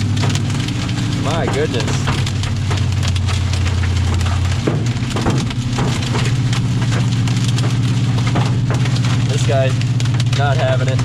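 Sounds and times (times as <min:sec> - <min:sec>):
hail pelting vehicle roof: 0:00.0 - 0:11.0
vehicle engine and road drone: 0:00.0 - 0:11.0.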